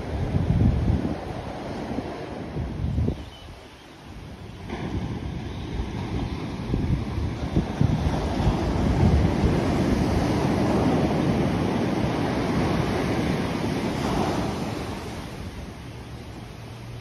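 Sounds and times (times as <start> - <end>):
waves breaking on a beach: 0.0 - 17.0
wind gusts on microphone: 0.0 - 17.0.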